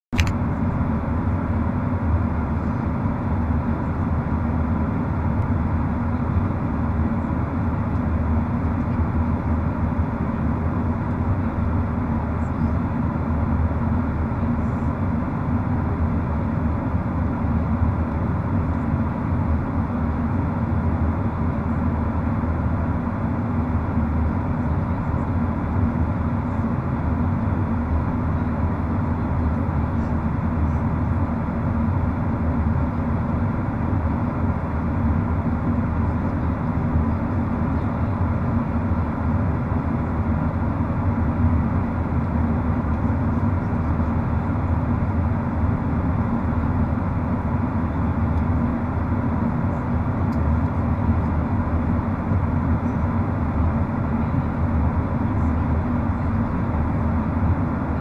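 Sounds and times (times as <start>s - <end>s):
jet engines droning: 0.2s - 58.0s.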